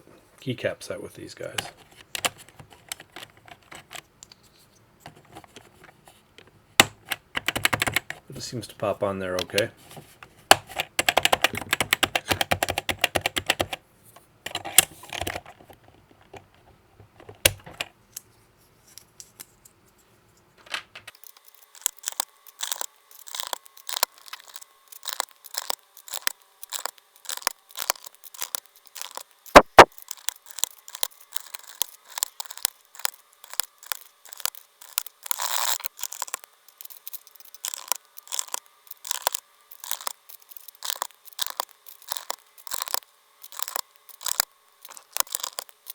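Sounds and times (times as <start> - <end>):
plastic keycaps clicking: 1.6 - 4.1, 5.1 - 8.2, 10.5 - 13.8, 14.5 - 17.9, 21.2 - 45.9.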